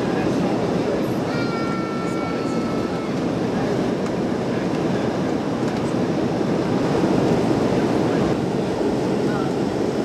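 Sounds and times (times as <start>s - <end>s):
airliner cabin roar in flight: 0.0s - 10.0s.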